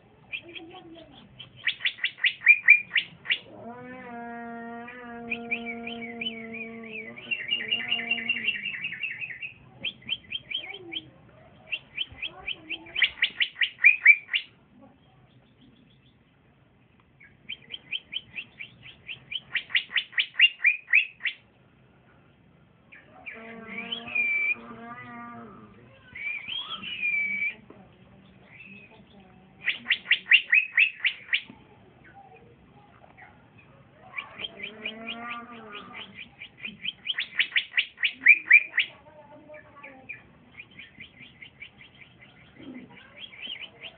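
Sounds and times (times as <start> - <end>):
bird chirping and trilling: 0.2 - 14.6, 17.2 - 21.4, 22.9 - 27.6, 28.2 - 32.4, 33.2 - 43.9.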